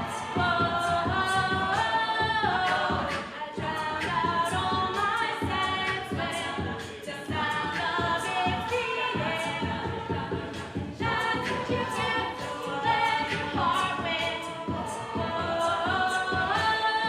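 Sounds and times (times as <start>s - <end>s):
group singing in harmony: 0.0s - 17.0s
steady beat: 0.0s - 17.0s.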